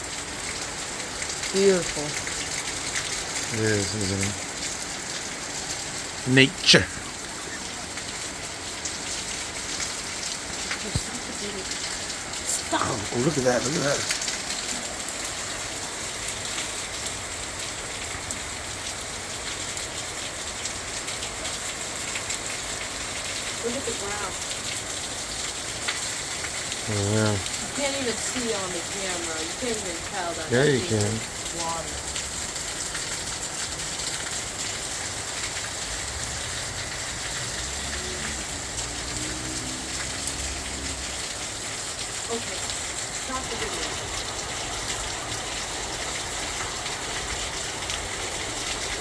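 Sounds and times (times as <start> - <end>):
heavy rain pattering: 0.0 - 49.0.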